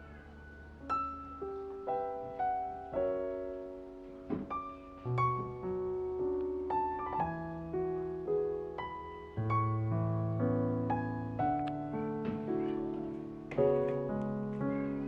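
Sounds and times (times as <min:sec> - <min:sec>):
soft slow piano melody: 0:00.0 - 0:15.0.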